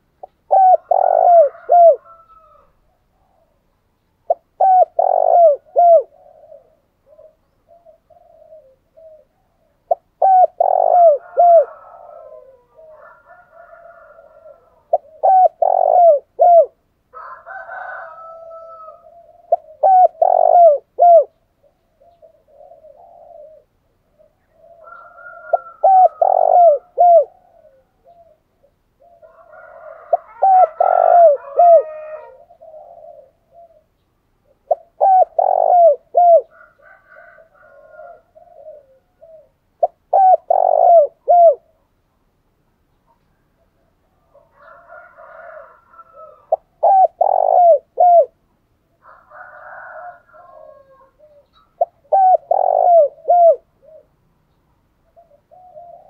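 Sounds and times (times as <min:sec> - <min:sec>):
dove cooing: 0:00.0 - 0:03.6, 0:04.2 - 0:41.8, 0:43.1 - 0:54.2, 0:55.0 - 0:56.0
faint bird calls: 0:00.0 - 0:16.8, 0:18.0 - 0:41.9, 0:42.9 - 0:56.0.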